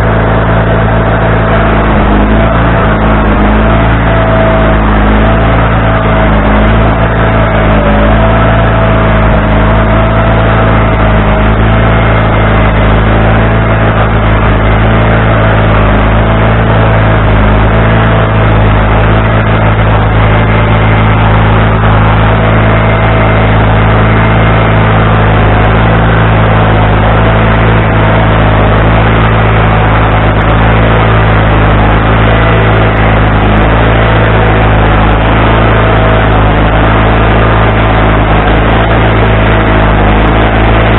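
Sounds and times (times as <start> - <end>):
band sawmill engine drone: 0.0 - 40.9
wavering saw whine: 0.0 - 40.9.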